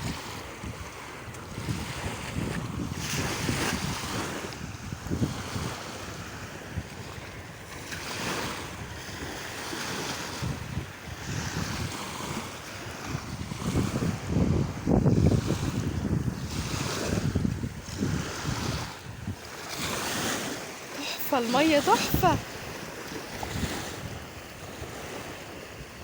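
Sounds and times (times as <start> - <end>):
wind buffeting microphone: 0.0 - 20.6, 21.2 - 26.0
sea waves washing in: 0.0 - 26.0.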